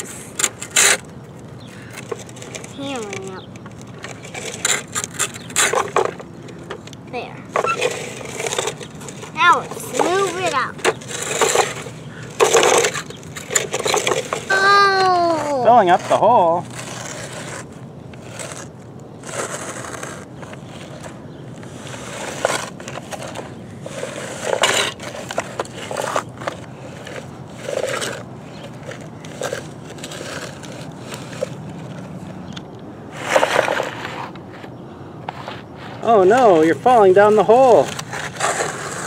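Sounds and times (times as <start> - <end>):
toy bulldozer blade scraping sand: 0.0 - 1.1, 1.7 - 6.6, 7.5 - 32.3, 33.1 - 34.7, 35.3 - 39.0.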